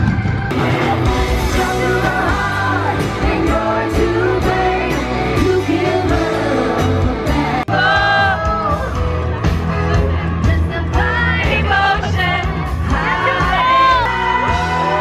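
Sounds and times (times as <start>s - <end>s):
live pop music with singer: 0.0s - 15.0s.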